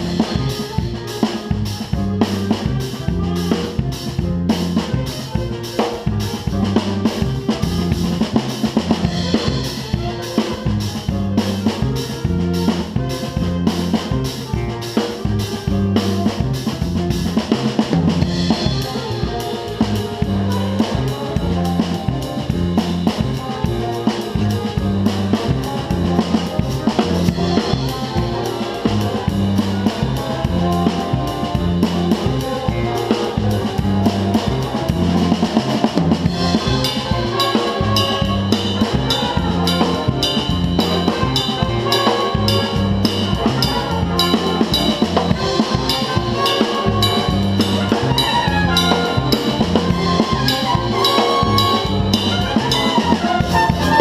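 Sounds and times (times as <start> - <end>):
big band playing: 0.0 - 54.0
drum kit pattern: 0.0 - 54.0.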